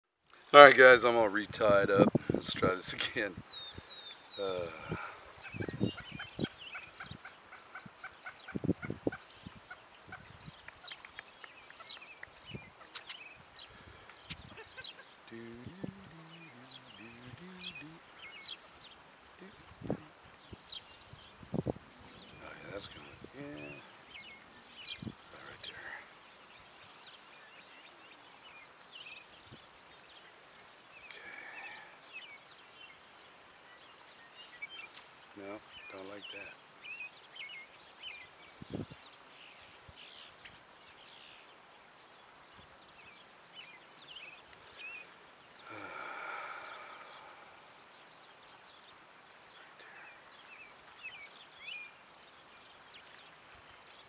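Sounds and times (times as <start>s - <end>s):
birds chirping: 0.6s - 54.0s.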